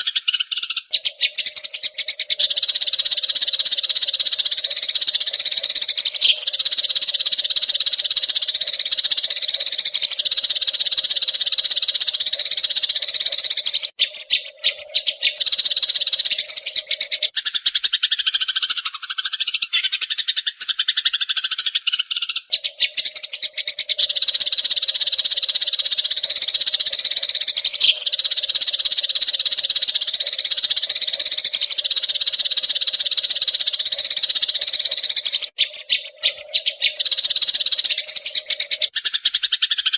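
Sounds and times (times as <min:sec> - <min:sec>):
flock of sparrows chirping: 0:00.0 - 0:39.9.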